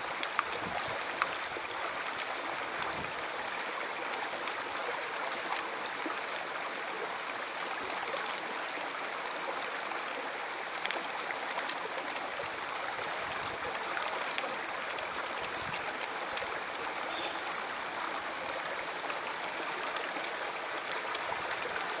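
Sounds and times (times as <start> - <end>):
river water rushing: 0.0 - 22.0
small splashing ticks: 0.0 - 22.0.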